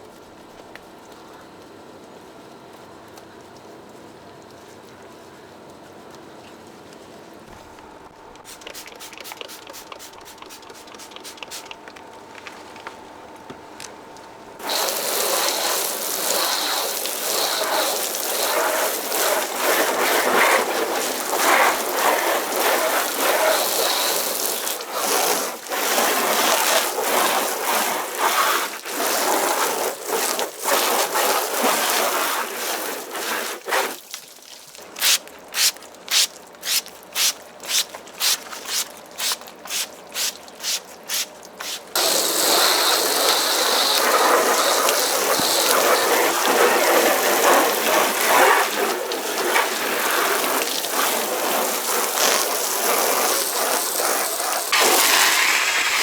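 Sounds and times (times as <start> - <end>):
foam nozzle spraying water: 7.5 - 12.0, 14.6 - 56.0.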